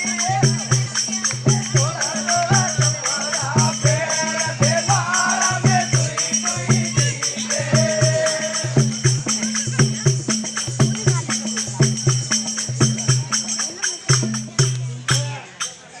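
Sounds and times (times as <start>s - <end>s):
drum beating steady rhythm: 0.0s - 16.0s.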